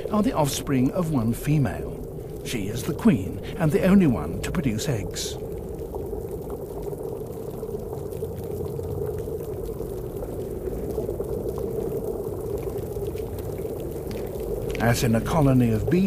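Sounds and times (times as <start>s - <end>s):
bubbling water wash: 0.0s - 16.0s.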